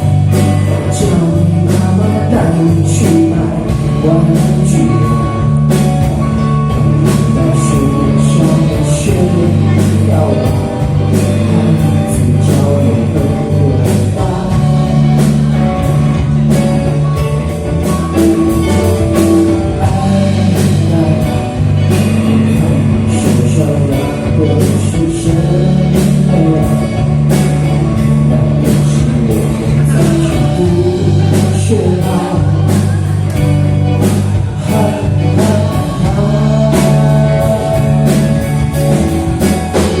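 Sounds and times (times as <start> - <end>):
drum kit beat: 0.0 - 40.0
person singing: 0.0 - 40.0
rock band playing: 0.0 - 40.0.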